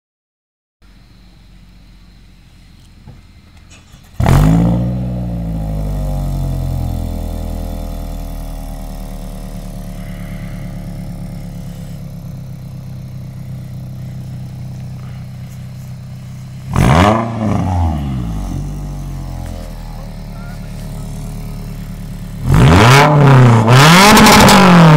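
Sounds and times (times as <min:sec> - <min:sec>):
car engine idling and revving: 0:00.8 - 0:24.9.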